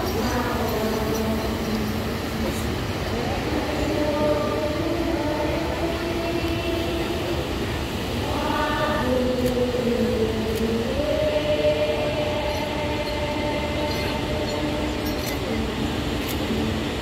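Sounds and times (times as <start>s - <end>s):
chorus singing long notes: 0.0s - 17.0s.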